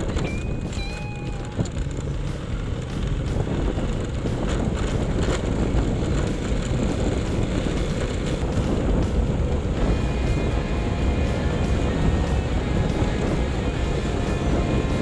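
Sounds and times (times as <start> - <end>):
motorcycle engine: 0.0 - 15.0
wind on microphone: 0.0 - 15.0.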